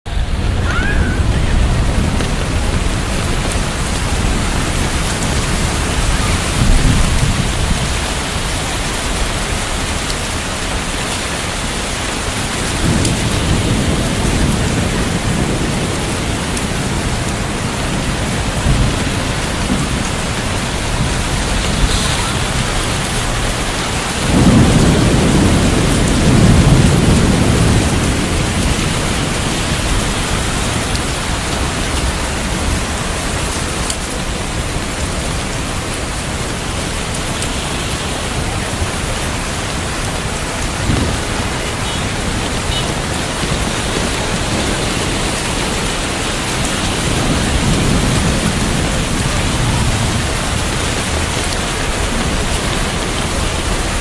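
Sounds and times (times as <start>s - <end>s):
heavy rain falling: 0.1s - 54.0s
thunder rumbling: 0.1s - 54.0s.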